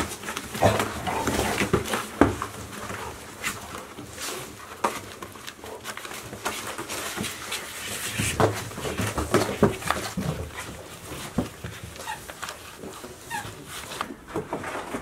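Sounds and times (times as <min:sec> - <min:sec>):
puppies tearing cardboard: 0:00.0 - 0:15.0.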